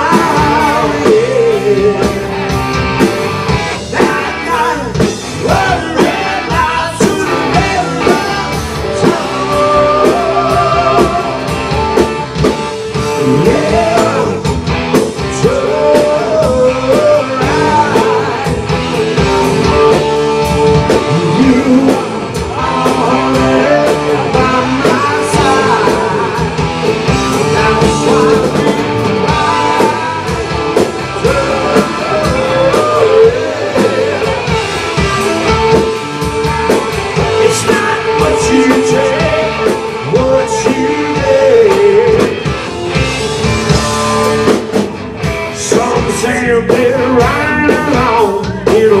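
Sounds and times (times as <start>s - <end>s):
lead vocal singing: 0.0s - 43.8s, 45.5s - 49.0s
bass guitar: 0.0s - 49.0s
distorted electric guitars: 0.0s - 49.0s
drum kit: 0.0s - 49.0s.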